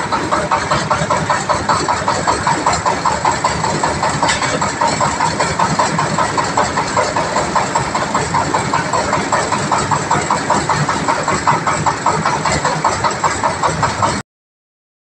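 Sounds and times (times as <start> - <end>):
engine knocking steadily: 0.0 - 14.2.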